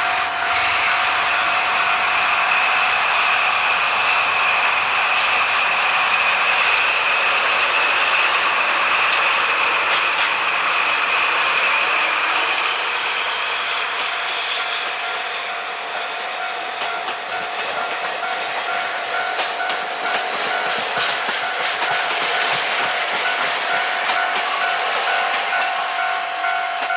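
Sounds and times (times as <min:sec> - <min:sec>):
train wheels clattering on rails: 0:00.0 - 0:26.9.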